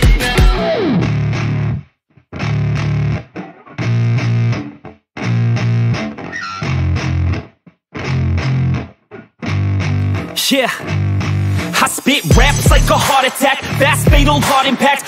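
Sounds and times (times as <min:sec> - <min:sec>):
distorted electric guitar and bass riff: 0:00.0 - 0:15.0.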